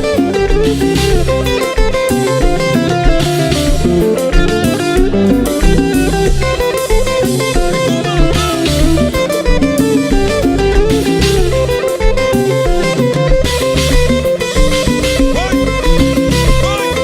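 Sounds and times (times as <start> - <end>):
bass: 0.0 - 17.0
drum kit groove: 0.0 - 17.0
electric guitars plucking: 0.0 - 17.0.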